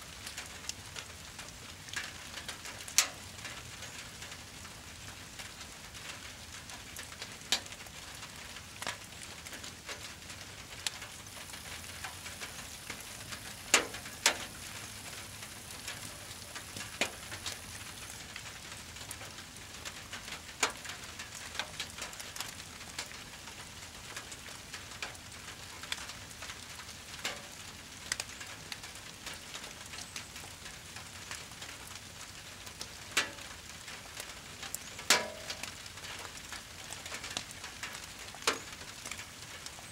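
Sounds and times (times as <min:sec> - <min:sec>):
rain hissing: 0:00.0 - 0:39.9
fire crackling and popping: 0:00.1 - 0:39.9.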